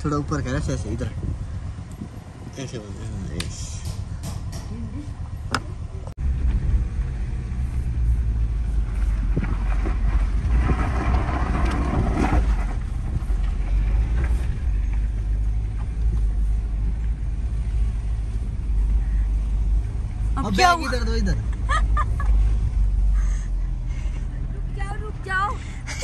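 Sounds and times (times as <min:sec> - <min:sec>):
vehicle low rumble: 0:00.0 - 0:26.0.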